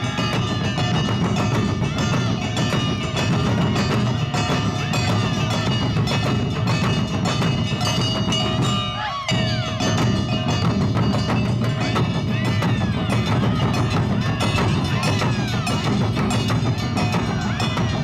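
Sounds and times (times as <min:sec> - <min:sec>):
clanging bell: 0:00.0 - 0:18.0
marching band drums: 0:00.0 - 0:18.0.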